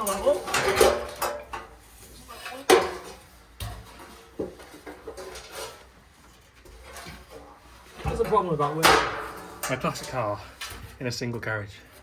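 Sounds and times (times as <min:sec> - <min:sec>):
steel panels clanking and scraping: 0:00.0 - 0:11.1.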